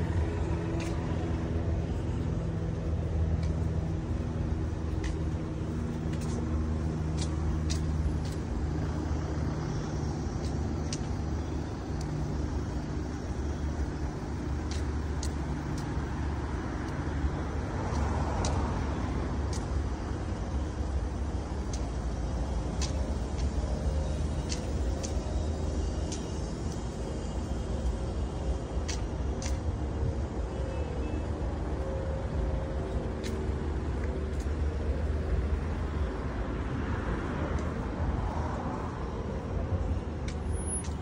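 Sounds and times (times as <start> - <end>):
car engines humming in traffic: 0.0 - 41.0.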